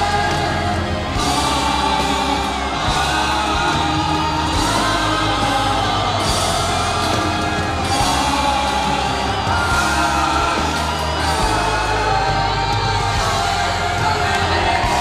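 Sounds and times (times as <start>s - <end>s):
loud amplified backing music: 0.0s - 15.0s
person singing live: 0.0s - 15.0s.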